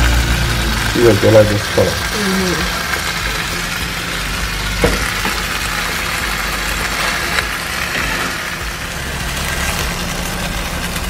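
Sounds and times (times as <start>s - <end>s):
chicken sizzling in a pan: 0.0s - 11.0s
steady low hum: 0.0s - 11.0s.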